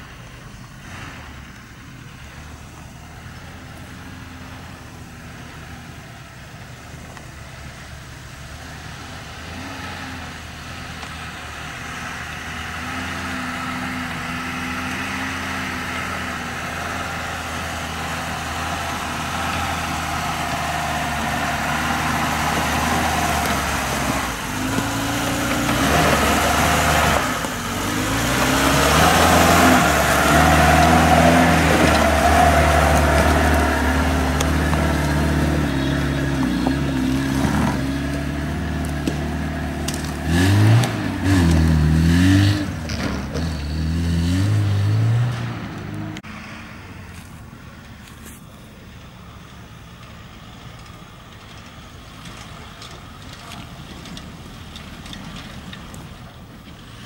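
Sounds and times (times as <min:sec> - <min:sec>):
car engine pulling up a slope: 0:00.0 - 0:57.0.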